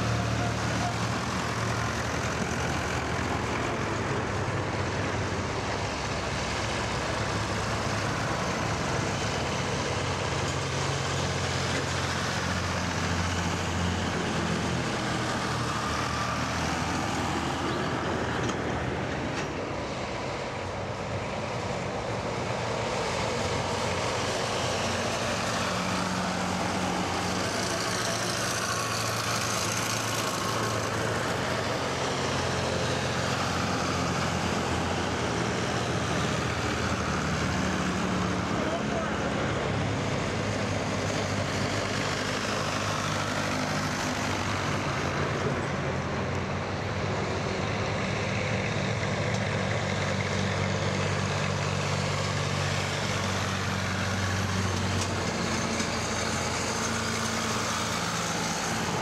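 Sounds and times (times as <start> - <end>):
tractor engines driving past: 0.0 - 59.0.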